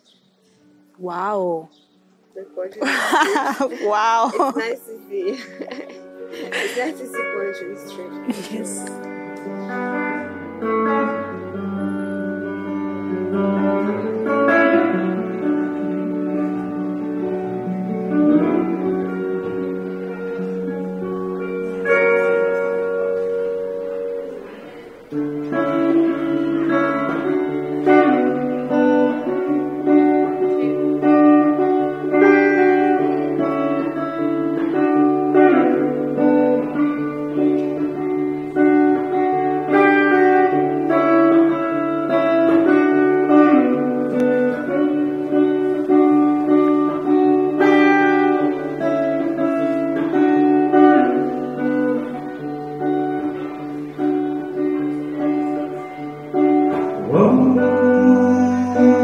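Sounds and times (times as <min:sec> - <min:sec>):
solo guitar: 0:00.0 - 0:59.0.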